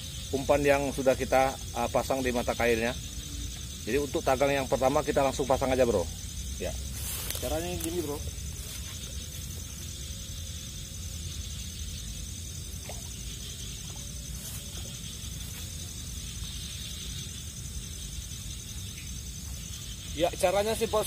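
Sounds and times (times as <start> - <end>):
insect chirring trill: 0.0 - 21.0.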